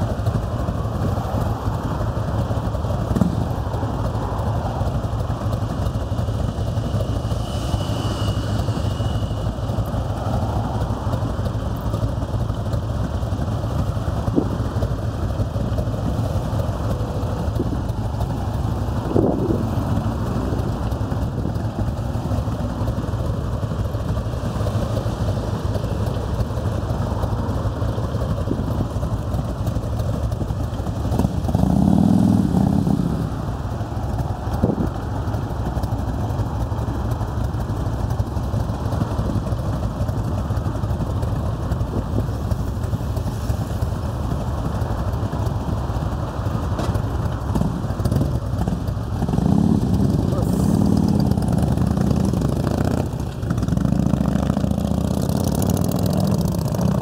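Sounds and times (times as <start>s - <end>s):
motorcycle engines idling: 0.0s - 57.0s.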